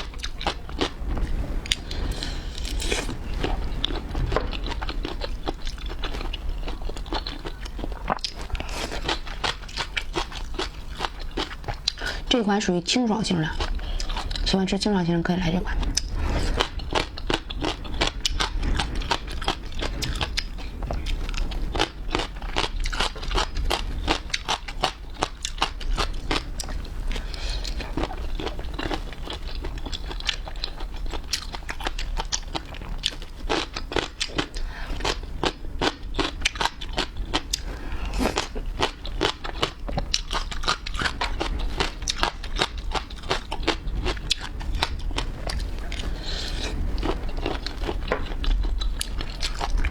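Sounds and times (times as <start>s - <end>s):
crunching and chewing seafood: 0.0s - 14.6s, 15.4s - 49.9s.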